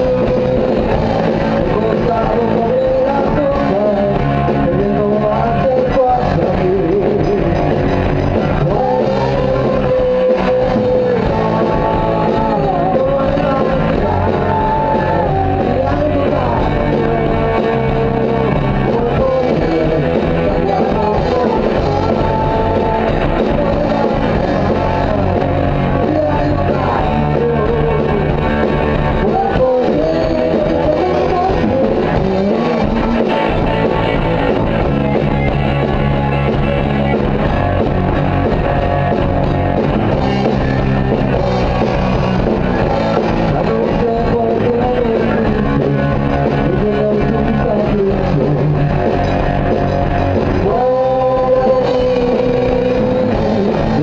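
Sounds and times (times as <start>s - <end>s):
electric guitar: 0.0s - 54.0s
person singing: 0.0s - 54.0s
rock band playing: 0.0s - 54.0s.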